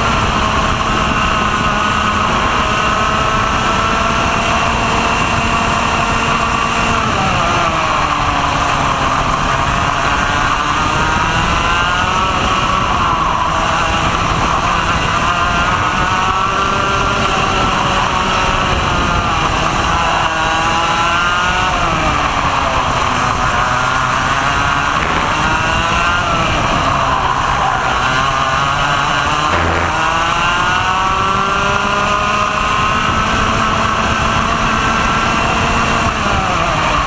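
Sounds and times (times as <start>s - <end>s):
kart engine revving: 0.0s - 37.0s
wind and track noise: 0.0s - 37.0s.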